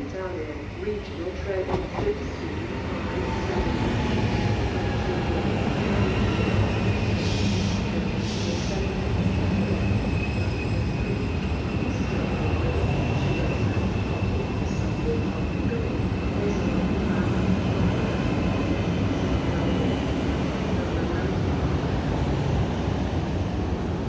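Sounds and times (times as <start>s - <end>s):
train wheels rumbling on rails: 1.1s - 24.0s.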